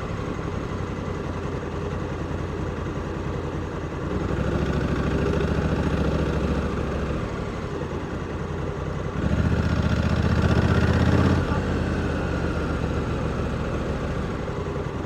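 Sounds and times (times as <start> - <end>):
motorcycle engine running at low revs: 0.0 - 15.0.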